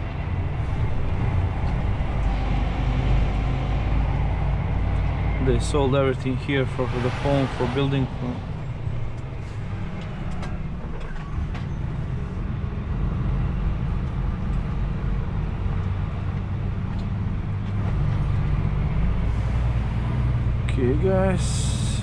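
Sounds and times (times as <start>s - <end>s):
truck diesel engine rumble: 0.0s - 22.0s.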